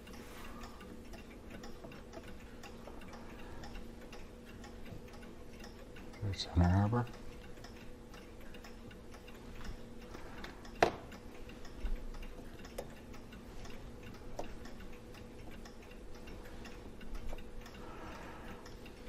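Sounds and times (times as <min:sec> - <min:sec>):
small metal clock parts clicking: 0:00.0 - 0:19.0.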